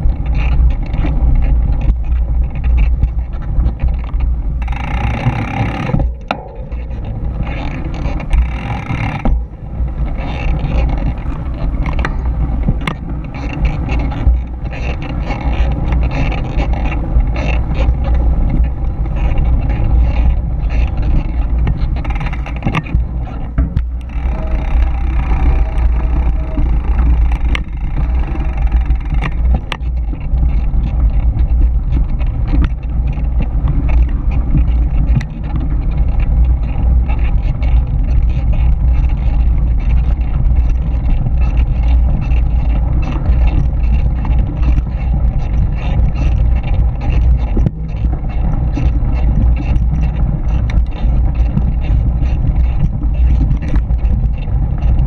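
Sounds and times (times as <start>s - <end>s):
bike knocks and rattles: 0.0s - 55.0s
tyres rumbling on dirt: 0.0s - 55.0s
wind buffeting microphone: 0.0s - 55.0s.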